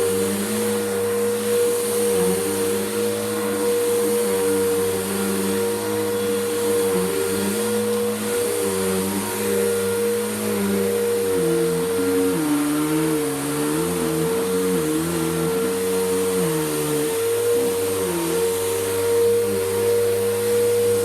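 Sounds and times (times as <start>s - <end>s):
vacuum cleaner motor whine: 0.0s - 21.0s.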